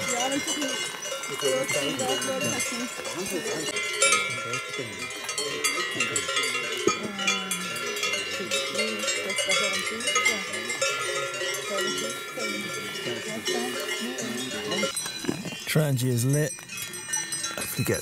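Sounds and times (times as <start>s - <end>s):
cowbells clanking: 0.0s - 18.0s
faint voices: 0.0s - 18.0s.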